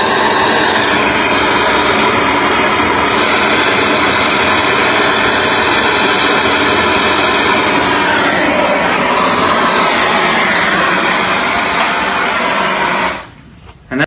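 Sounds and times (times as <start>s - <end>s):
propane torch hissing: 0.0s - 13.5s.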